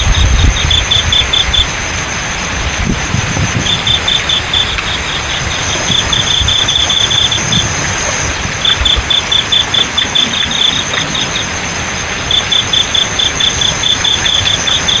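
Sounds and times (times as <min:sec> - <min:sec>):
crickets chirping: 0:00.0 - 0:15.0
flowing water: 0:00.0 - 0:15.0
high insect trill: 0:00.0 - 0:15.0.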